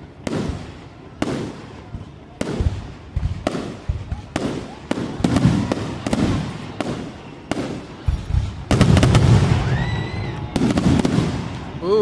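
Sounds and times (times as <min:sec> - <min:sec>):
fireworks bursting with bangs: 0:00.0 - 0:12.0
low rumbling echo: 0:00.0 - 0:12.0.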